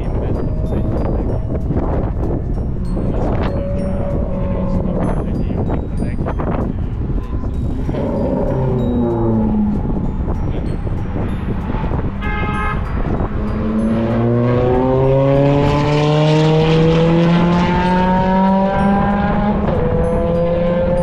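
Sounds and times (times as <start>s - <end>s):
sports car engine accelerating: 0.0s - 21.0s
wind buffeting microphone: 0.0s - 21.0s.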